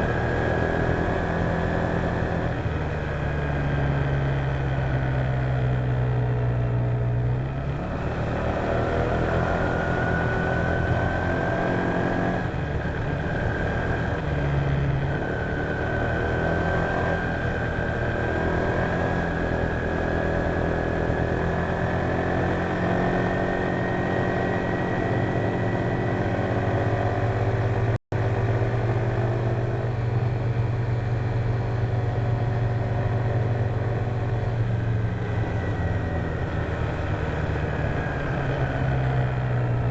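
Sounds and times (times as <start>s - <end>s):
scooter engine whine: 0.0s - 39.9s.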